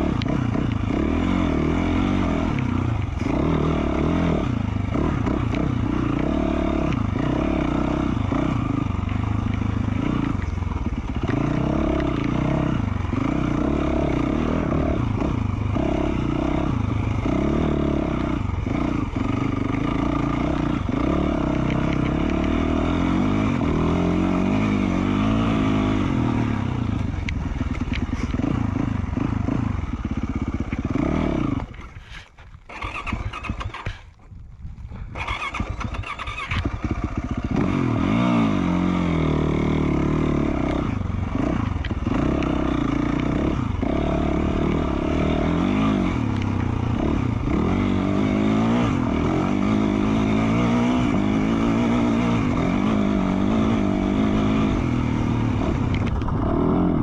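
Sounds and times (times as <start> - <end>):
dirt bike engine revving: 0.0 - 34.2, 35.1 - 57.0.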